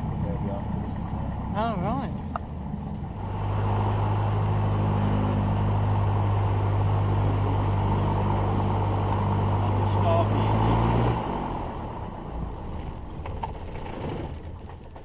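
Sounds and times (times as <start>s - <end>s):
aircraft piston engine droning: 0.0s - 13.2s.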